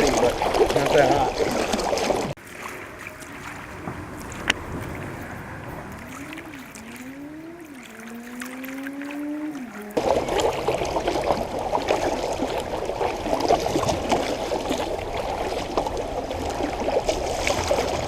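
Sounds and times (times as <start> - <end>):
river water splashing: 0.0 - 18.0.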